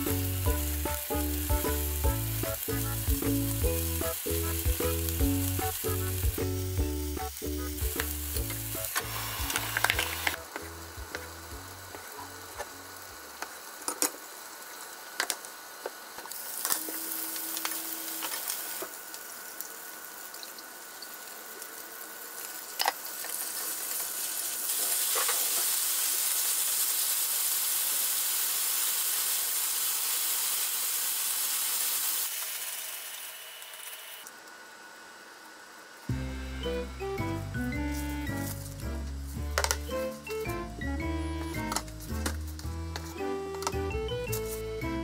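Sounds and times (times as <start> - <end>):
chicken sizzling in frying pan: 0.0 - 40.8.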